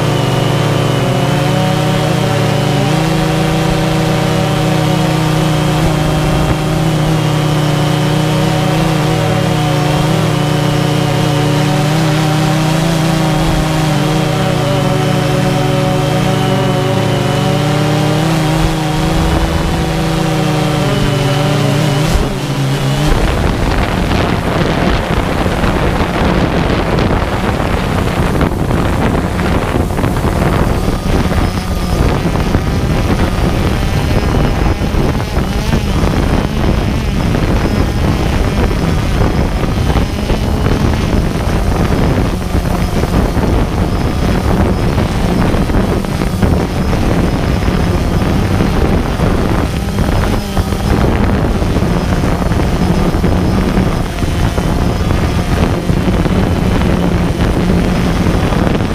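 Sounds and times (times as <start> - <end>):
drone propellers whirring: 0.0 - 58.9
wind noise: 0.0 - 58.9.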